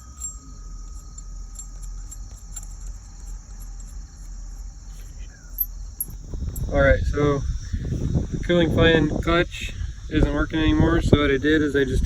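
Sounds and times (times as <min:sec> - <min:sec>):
crickets chirping: 0:00.0 - 0:12.0
faint low rumble: 0:00.0 - 0:12.0.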